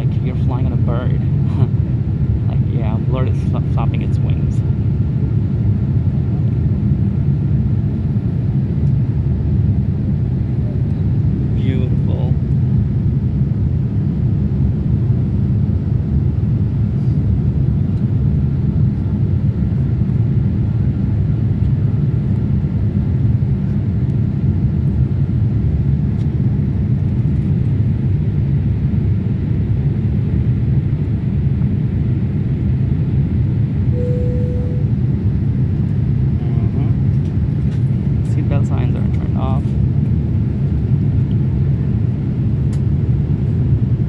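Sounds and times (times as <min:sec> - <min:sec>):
airplane cabin rumble: 0:00.0 - 0:44.0.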